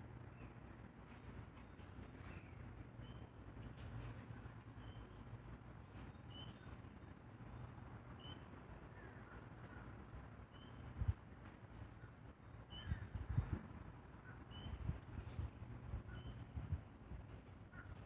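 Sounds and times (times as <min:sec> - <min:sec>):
low steady rumble: 0:00.0 - 0:18.0
birds chirping: 0:00.2 - 0:16.8.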